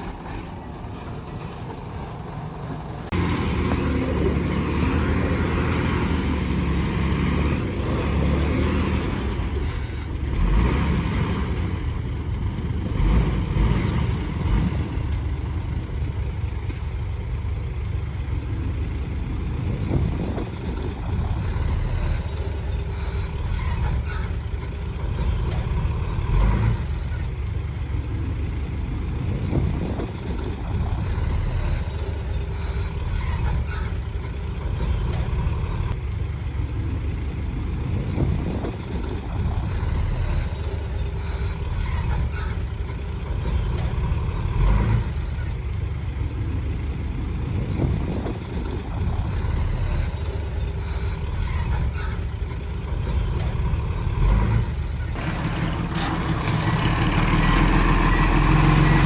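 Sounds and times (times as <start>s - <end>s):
diesel earthmoving machinery running: 0.0s - 59.0s.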